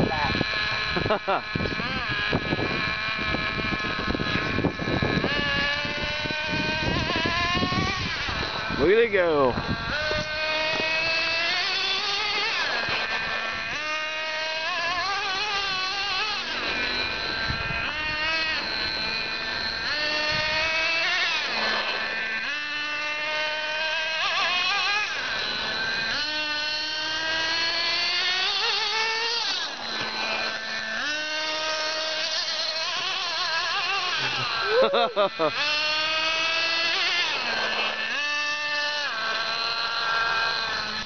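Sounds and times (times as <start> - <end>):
rc car engine revving: 0.0 - 41.0.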